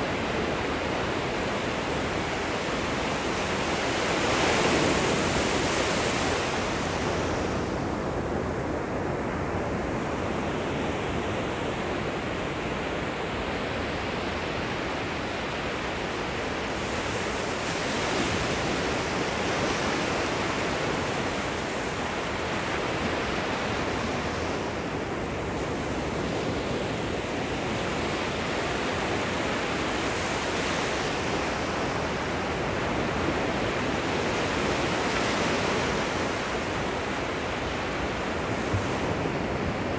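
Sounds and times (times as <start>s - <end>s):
ocean surf washing ashore: 0.0s - 39.9s.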